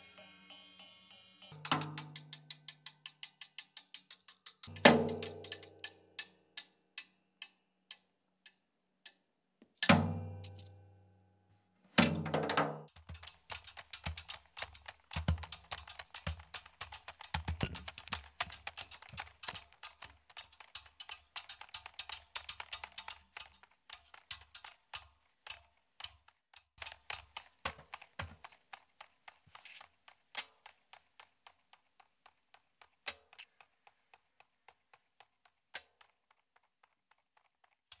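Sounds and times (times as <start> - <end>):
sharp clicks and taps: 1.5 - 9.8, 12.4 - 38.0.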